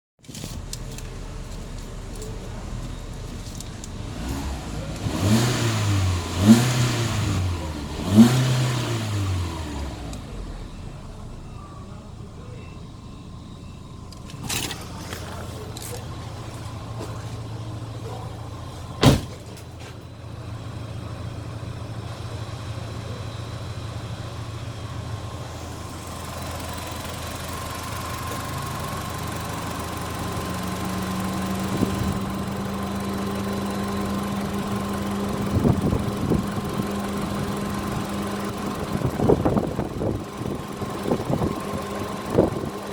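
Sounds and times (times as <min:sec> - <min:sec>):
car engine idling: 0:00.2 - 0:42.9.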